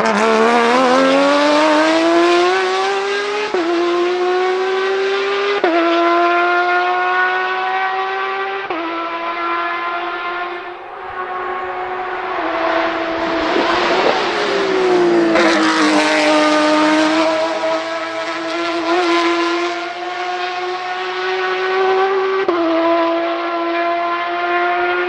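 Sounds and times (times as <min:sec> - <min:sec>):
race car passing and accelerating: 0:00.0 - 0:25.0.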